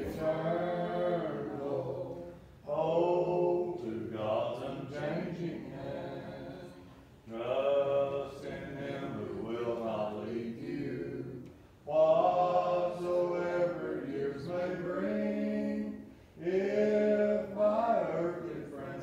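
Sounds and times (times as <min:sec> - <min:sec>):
congregation singing a hymn: 0:00.0 - 0:19.0.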